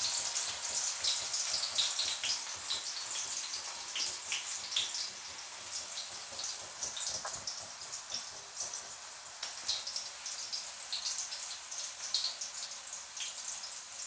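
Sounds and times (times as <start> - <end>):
oil crackles and pops: 0.0 - 14.0
tofu sizzling in oil: 0.0 - 14.0.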